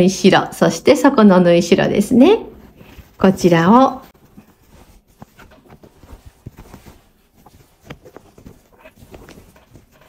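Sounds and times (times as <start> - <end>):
cloth rustling: 1.8 - 10.0.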